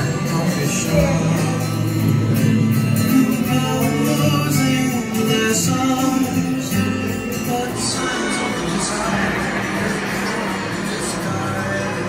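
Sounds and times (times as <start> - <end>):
song with guitar and singing: 0.0 - 12.0.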